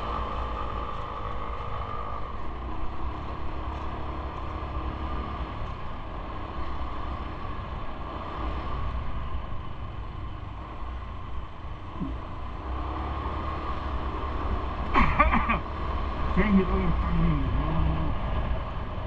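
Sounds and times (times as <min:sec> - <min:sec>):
low road rumble: 0:00.0 - 0:19.0.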